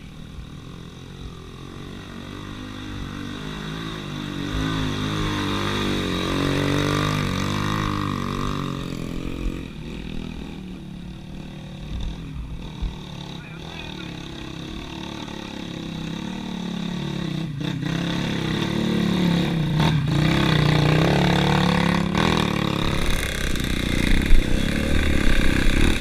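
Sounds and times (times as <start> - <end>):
dirt bike engine passing: 0.0 - 26.0.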